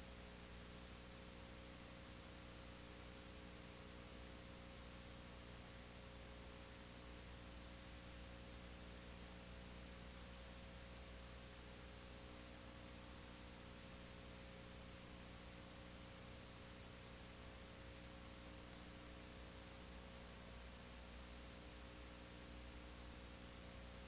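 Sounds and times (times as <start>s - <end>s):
faint hum and hiss: 0.0s - 24.0s.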